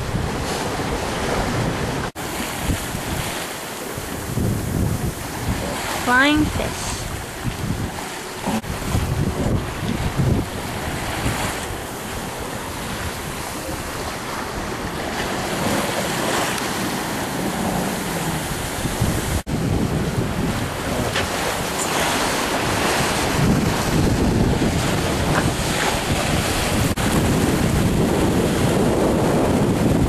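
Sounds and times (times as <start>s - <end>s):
sea waves rushing: 0.0s - 30.0s
wind buffeting microphone: 0.0s - 30.0s.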